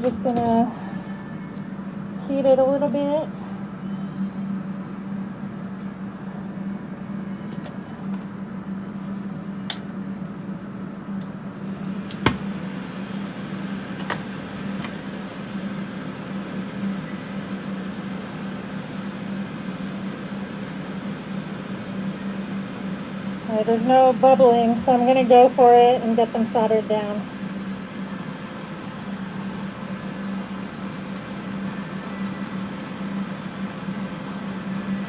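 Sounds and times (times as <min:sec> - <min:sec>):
fume extraction fans humming: 0:00.0 - 0:35.0
soldering torch: 0:05.1 - 0:35.0.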